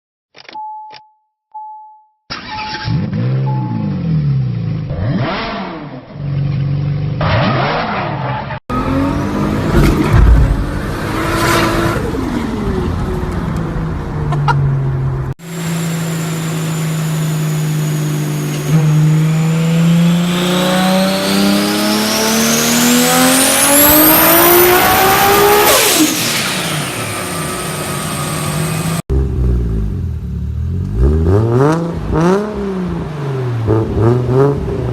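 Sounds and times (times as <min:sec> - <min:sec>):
car engine revving: 0:02.9 - 0:34.9.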